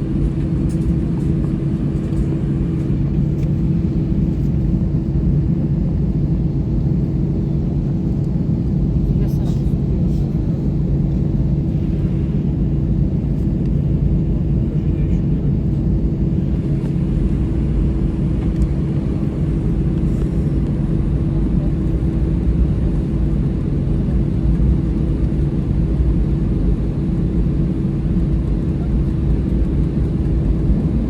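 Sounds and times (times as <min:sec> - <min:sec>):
aircraft cabin rumble: 0:00.0 - 0:31.0
constant hum: 0:00.0 - 0:31.0.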